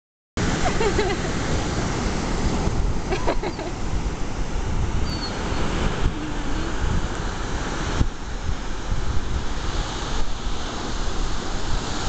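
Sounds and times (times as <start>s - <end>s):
surf breaking on a beach: 0.4s - 12.0s
wind buffeting the microphone: 0.4s - 12.0s.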